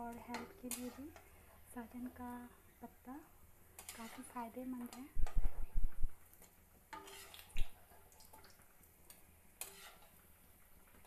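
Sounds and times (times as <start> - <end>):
oil frying and sizzling: 0.0 - 11.0.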